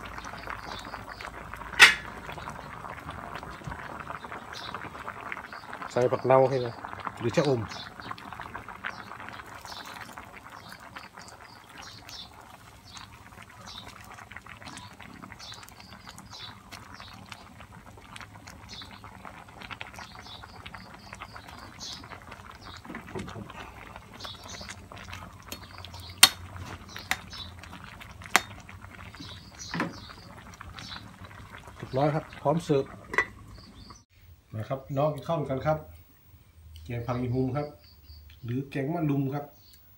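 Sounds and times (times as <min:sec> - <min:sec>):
pot of curry bubbling: 0:00.0 - 0:39.8.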